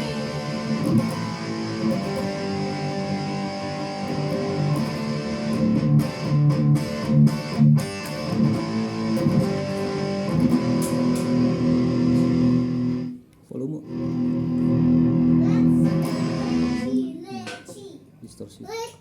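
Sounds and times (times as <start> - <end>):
distorted electric guitar chords: 0.0 - 13.2, 13.8 - 17.0.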